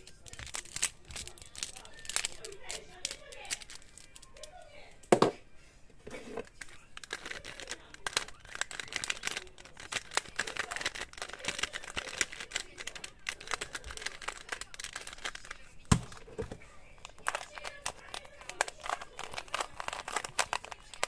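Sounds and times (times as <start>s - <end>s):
puzzle cube plastic clicks: 0.0s - 4.5s, 6.4s - 21.0s.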